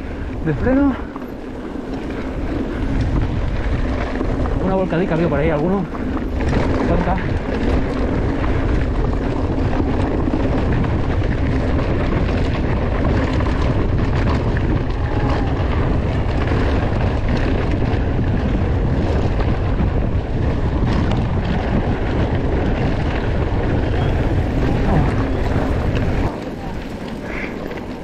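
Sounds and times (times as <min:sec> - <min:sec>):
bike tyre noise: 0:00.0 - 0:28.0
wind rumble on microphone: 0:00.0 - 0:28.0
bike knocks and rattles: 0:01.0 - 0:28.0.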